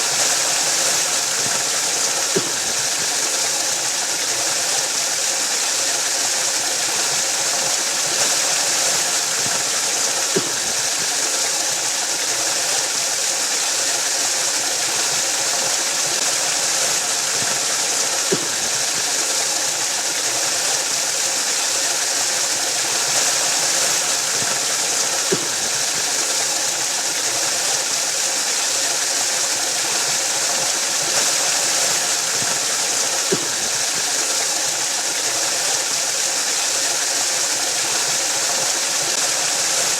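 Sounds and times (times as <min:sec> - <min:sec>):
waterfall pouring onto rock: 0:00.0 - 0:39.9.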